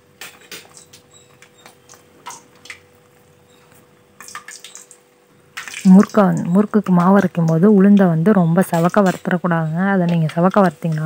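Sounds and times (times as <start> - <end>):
faint steady hum: 0.0 - 11.0
oil sizzling and crackling: 0.1 - 11.0.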